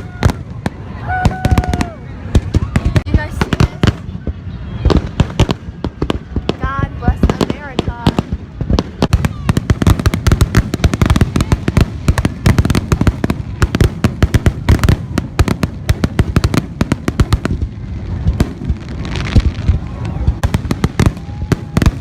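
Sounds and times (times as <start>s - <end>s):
fireworks bangs and booms: 0.0s - 22.0s.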